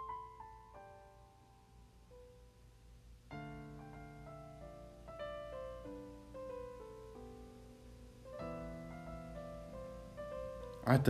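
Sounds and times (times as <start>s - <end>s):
slow soft piano music: 0.0s - 11.0s.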